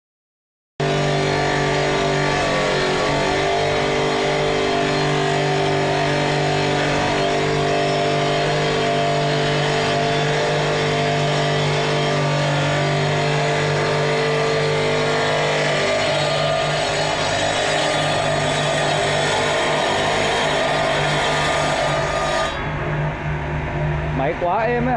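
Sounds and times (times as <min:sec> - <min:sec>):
stone-cutting machine running: 0:00.8 - 0:24.9.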